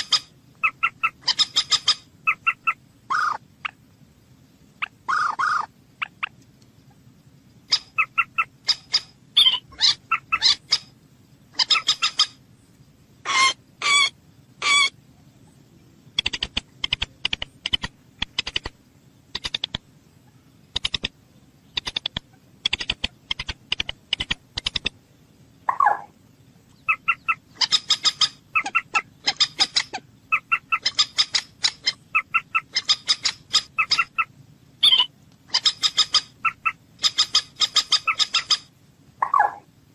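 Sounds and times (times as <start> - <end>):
moorhen clucking calls: 0.0 - 3.8, 4.8 - 7.0, 7.6 - 12.4, 13.2 - 15.0, 16.1 - 25.0, 25.6 - 39.7.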